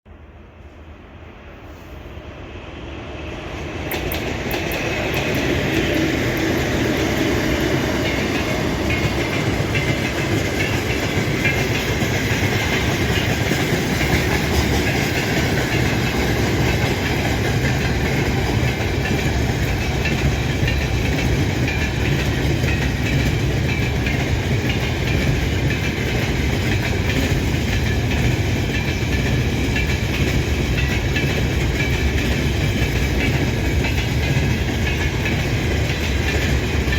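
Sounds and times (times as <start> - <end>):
freight train rolling rumble: 0.1 - 36.9
wagon wheels clacking on rails: 3.8 - 36.9.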